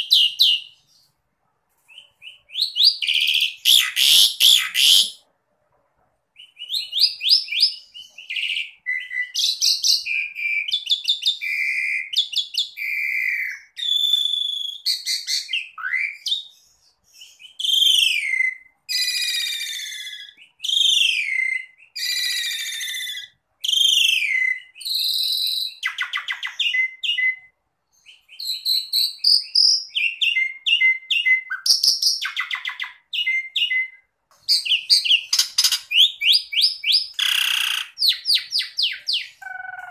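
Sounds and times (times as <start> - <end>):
starling singing: 1.9 - 5.2, 6.4 - 39.9.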